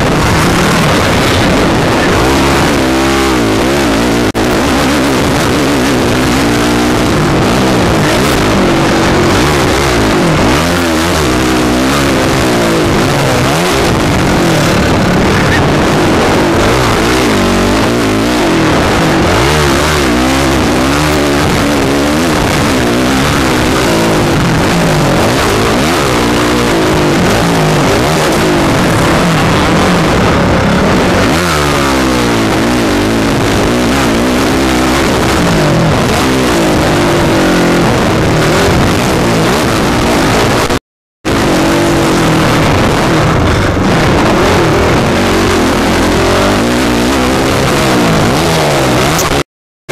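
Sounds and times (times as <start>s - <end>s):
wind rush on microphone: 0.0s - 49.4s
motorbike engine revving: 0.0s - 49.9s.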